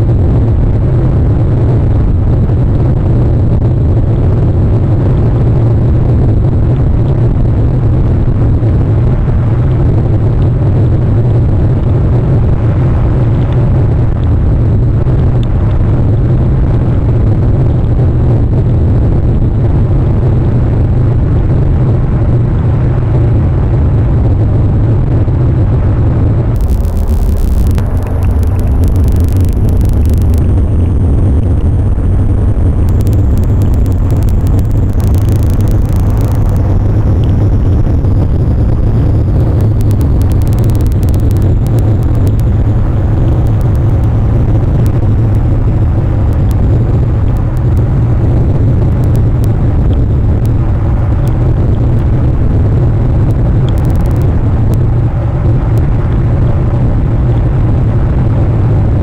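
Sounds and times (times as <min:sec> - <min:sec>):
wind rumble: 0:00.0 - 0:59.0.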